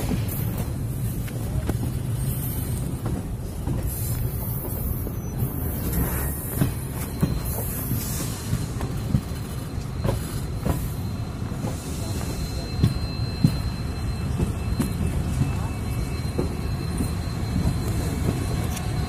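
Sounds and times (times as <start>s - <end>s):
train wheels rumbling on rail: 0.0s - 19.0s
wheels clacking over rail joints: 0.0s - 19.0s.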